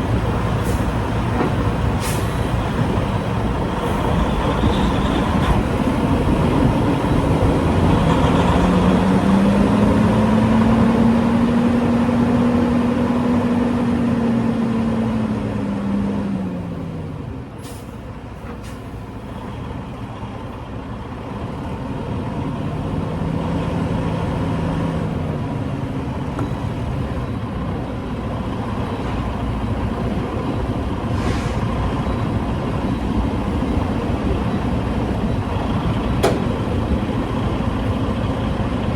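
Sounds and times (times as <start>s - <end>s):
diesel truck engine: 0.0s - 38.9s
road noise: 0.0s - 38.9s.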